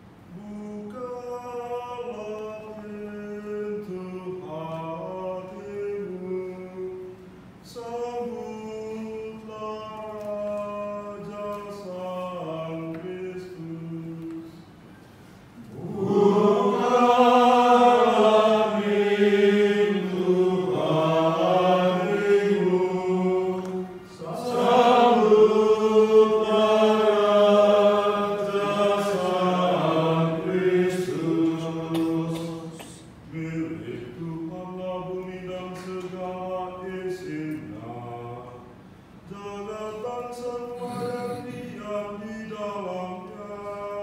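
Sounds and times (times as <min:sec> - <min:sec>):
man singing chant-like melody: 0:00.3 - 0:14.7, 0:15.6 - 0:38.7, 0:39.3 - 0:44.0.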